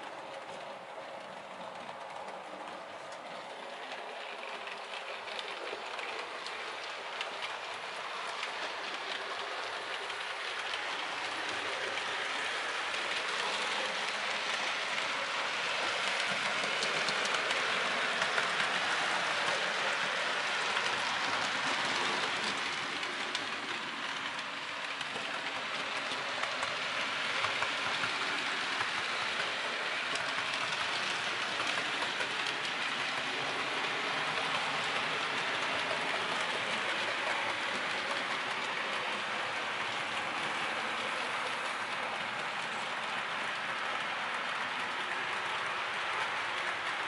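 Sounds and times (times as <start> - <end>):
model train running on track: 0.0 - 47.0.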